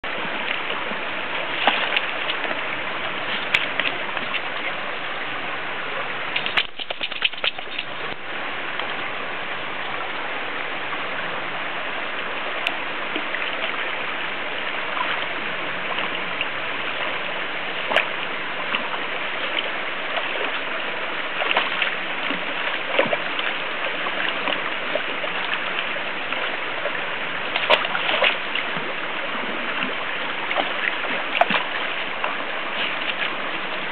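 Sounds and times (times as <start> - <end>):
stream water running: 0.0 - 33.9.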